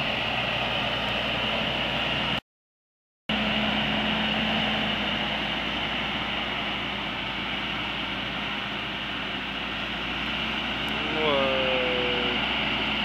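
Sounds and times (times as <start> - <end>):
tractor diesel engine running: 0.0 - 2.4, 3.3 - 13.0.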